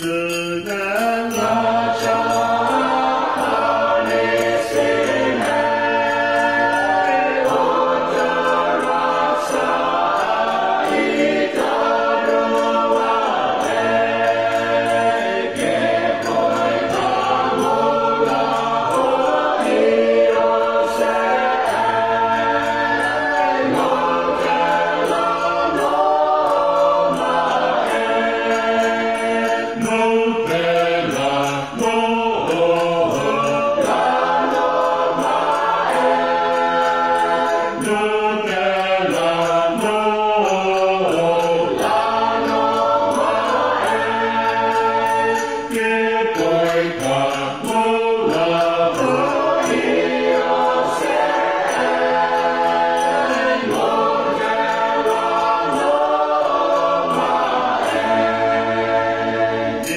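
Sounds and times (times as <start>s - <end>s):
choir singing a hymn: 1.3s - 59.9s.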